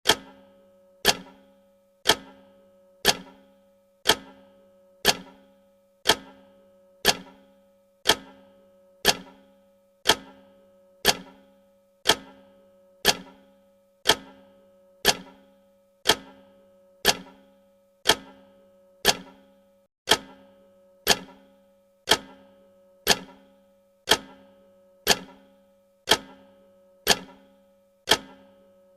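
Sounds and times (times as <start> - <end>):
clock ticking: 0.1 - 19.5, 20.1 - 20.4, 21.0 - 21.5, 22.1 - 23.5, 24.1 - 25.5, 26.1 - 27.5, 28.1 - 28.6.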